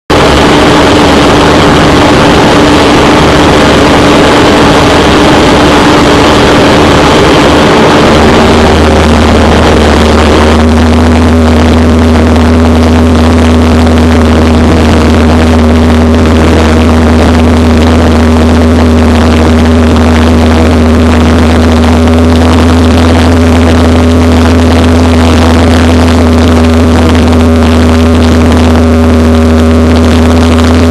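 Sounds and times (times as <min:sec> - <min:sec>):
airplane engine and propeller droning: 0:00.1 - 0:30.9.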